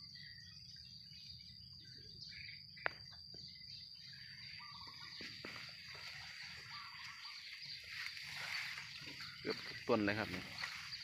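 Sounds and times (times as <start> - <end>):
bird chirps: 0.0 - 11.0
insect trill: 0.0 - 11.0.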